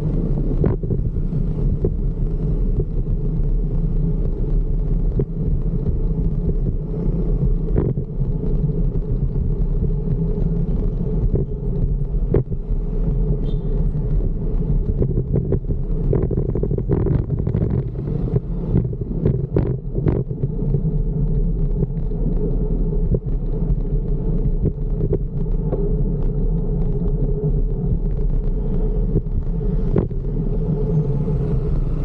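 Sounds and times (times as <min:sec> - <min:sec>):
road noise: 0:00.0 - 0:32.0
wind on microphone: 0:00.0 - 0:32.0.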